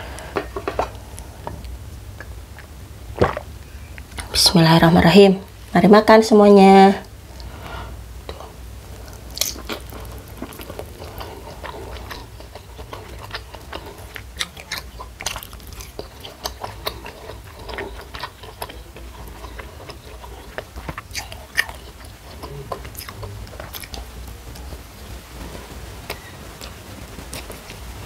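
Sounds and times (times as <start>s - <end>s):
person chewing food: 0.0s - 4.3s, 7.0s - 27.9s
low steady hum: 0.0s - 28.0s.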